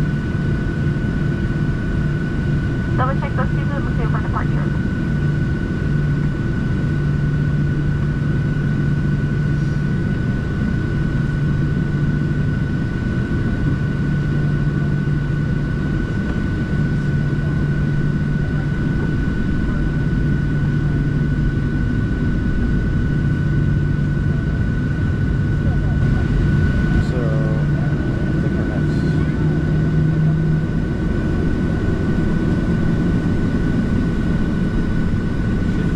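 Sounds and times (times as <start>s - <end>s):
jet engine drone: 0.0s - 35.9s
low hum: 0.0s - 35.9s
thin steady whine: 0.0s - 35.9s.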